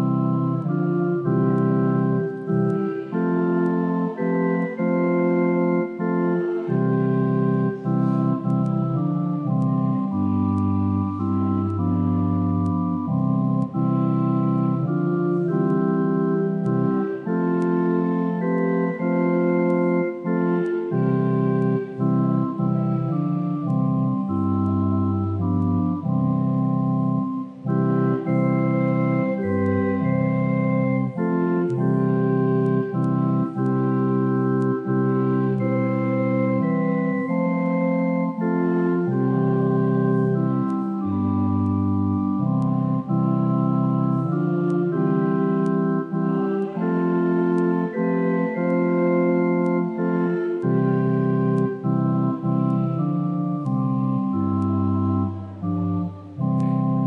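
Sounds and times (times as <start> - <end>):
pipe organ playing a hymn: 0.0 - 57.0.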